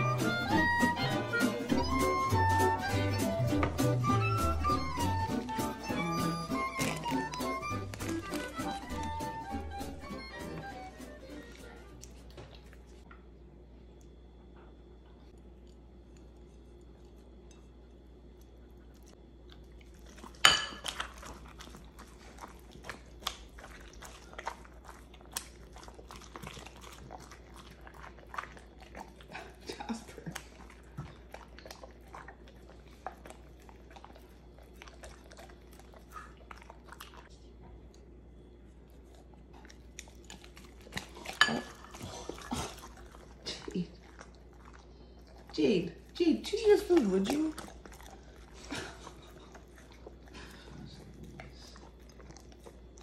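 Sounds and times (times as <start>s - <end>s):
dog chewing wetly: 0.0s - 13.1s, 15.3s - 53.0s.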